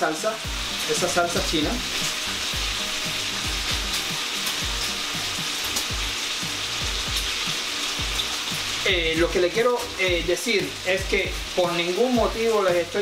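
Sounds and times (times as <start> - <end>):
food sizzling in a pot: 0.0 - 13.0
background music with thudding beat: 0.4 - 13.0.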